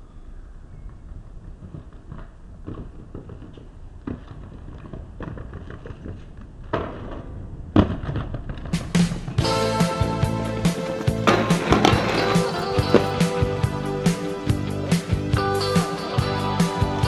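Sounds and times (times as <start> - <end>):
skate wheels rolling on paving: 0.8 - 17.0.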